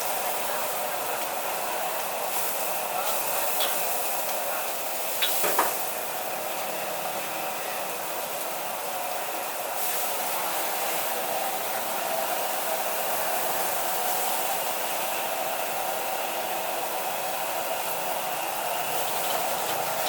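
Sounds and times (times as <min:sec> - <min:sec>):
food sizzling: 0:00.0 - 0:20.0
gas burner hissing: 0:00.0 - 0:20.0.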